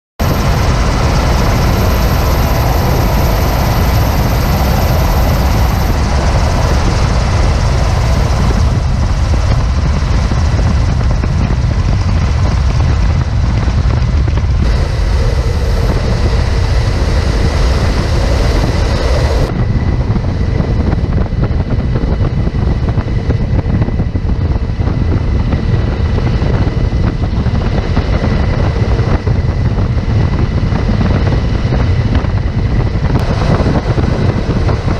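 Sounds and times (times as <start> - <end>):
aircraft engine drone: 0.2 - 34.9.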